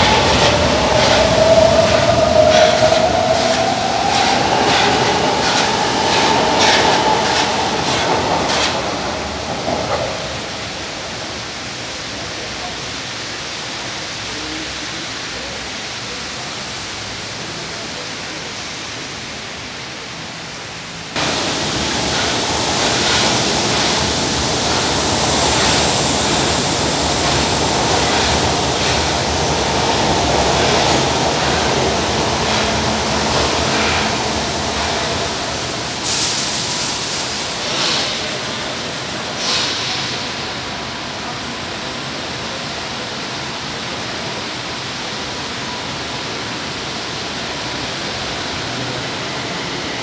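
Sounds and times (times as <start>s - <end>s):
rain hissing: 0.0s - 44.6s
distant rail noise: 0.0s - 50.0s
metro train running along platform: 0.0s - 50.0s.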